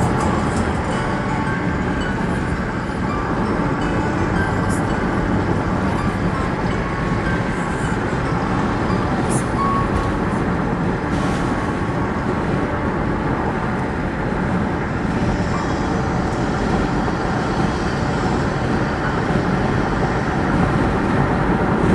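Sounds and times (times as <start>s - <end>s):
car engine running: 0.0s - 21.9s
tyres rolling on road: 0.0s - 21.9s.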